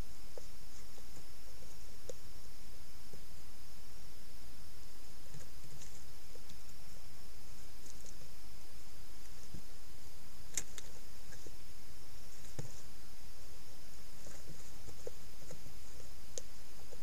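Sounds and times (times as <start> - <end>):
faint clicks and rustles: 0.0 - 3.4, 5.2 - 8.4, 9.1 - 17.0
microphone hiss: 0.0 - 17.0.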